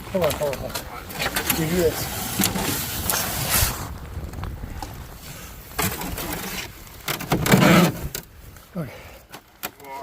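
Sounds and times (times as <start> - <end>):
canoe handling noise: 0.0 - 10.0.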